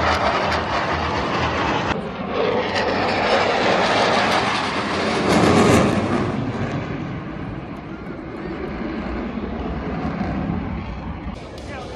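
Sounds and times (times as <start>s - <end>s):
jet engines flying overhead: 0.0s - 11.9s.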